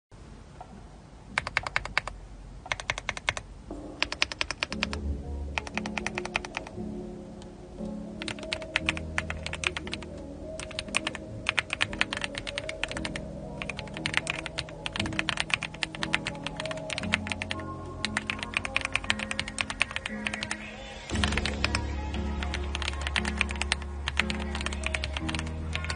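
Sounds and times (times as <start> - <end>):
background music low notes: 0.2 - 25.9
mechanical keyboard typing: 1.4 - 3.4, 4.0 - 5.0, 5.6 - 6.8, 8.2 - 20.6, 21.2 - 21.8, 22.4 - 25.9.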